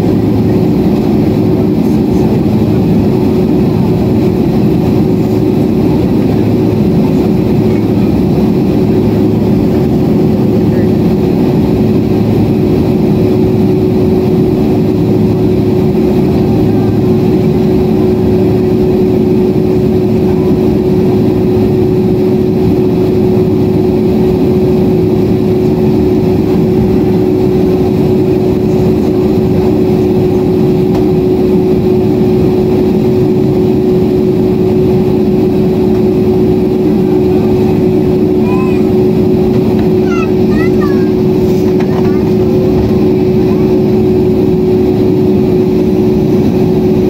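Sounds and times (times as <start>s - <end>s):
airliner cabin engine and airflow rush: 0.0s - 47.0s
steady hum: 0.0s - 47.0s.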